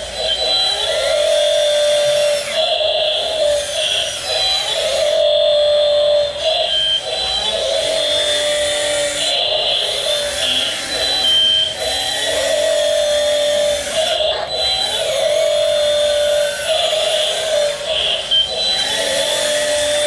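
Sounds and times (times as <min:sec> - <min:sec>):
electric motor and pump whining: 0:00.0 - 0:20.0.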